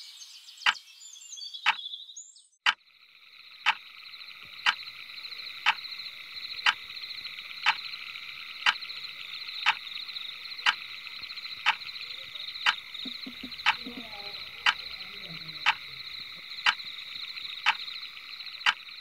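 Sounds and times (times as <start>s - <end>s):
frogs trilling: 2.7s - 19.0s.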